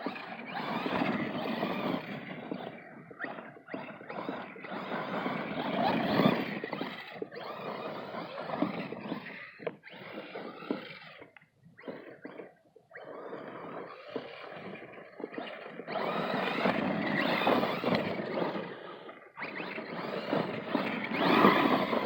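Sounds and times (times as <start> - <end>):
rc truck motor and tyres churning: 0.0 - 22.0.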